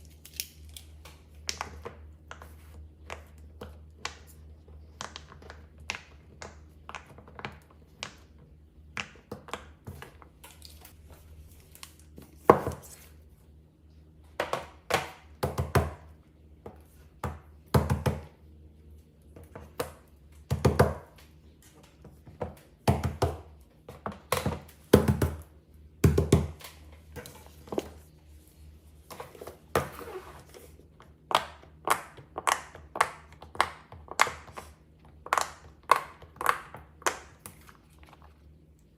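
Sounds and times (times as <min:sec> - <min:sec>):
faint low hum: 0:00.0 - 0:38.9.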